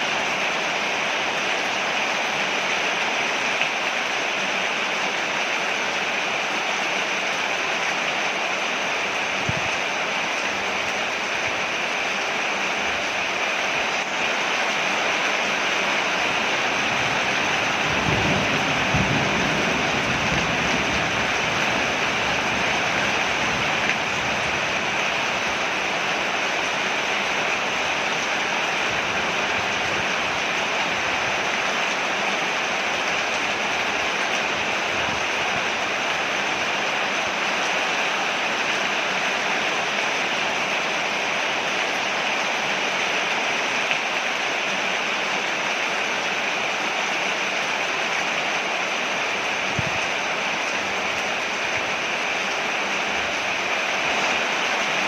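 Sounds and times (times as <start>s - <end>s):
rain falling on a porch: 0.0s - 55.0s.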